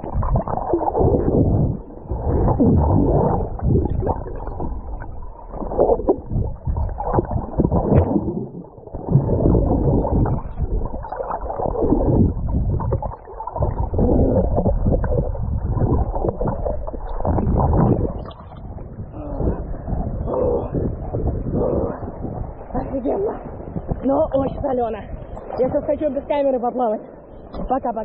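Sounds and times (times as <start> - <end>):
muffled water splashing: 0.0 - 28.0.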